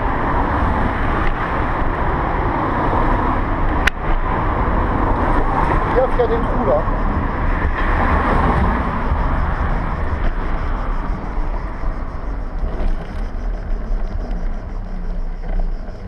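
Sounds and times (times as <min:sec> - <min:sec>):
wheels rolling over concrete: 0:00.0 - 0:16.0
wind buffeting microphone: 0:00.0 - 0:16.0.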